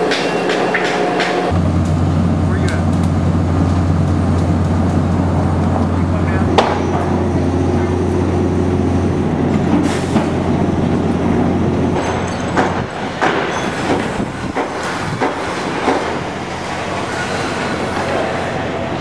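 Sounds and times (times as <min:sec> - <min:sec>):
heavy machinery drone: 0:00.0 - 0:19.0.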